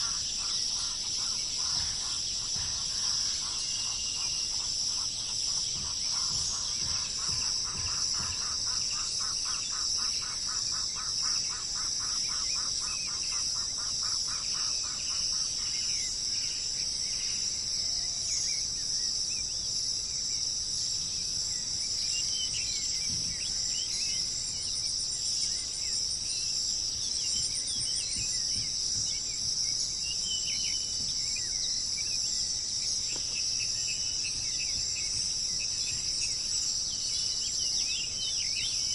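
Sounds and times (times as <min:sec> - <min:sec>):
birds calling: 0:00.0 - 0:17.4, 0:21.5 - 0:38.9
crickets trilling: 0:00.0 - 0:38.9.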